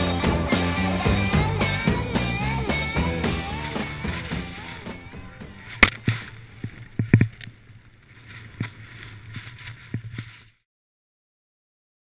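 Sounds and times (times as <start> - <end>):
low hum: 0.0 - 10.5
skis and poles knocking: 0.6 - 10.6.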